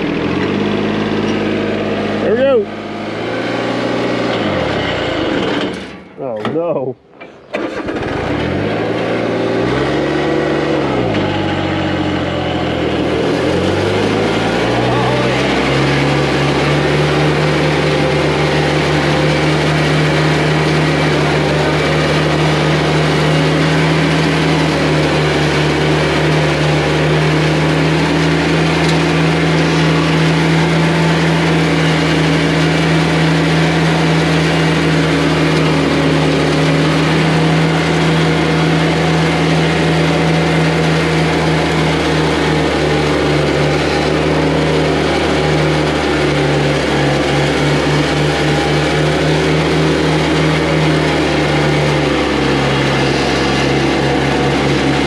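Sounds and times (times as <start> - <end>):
straw blower running: 0.0 - 6.8, 7.4 - 55.0
tractor engine: 0.0 - 55.0.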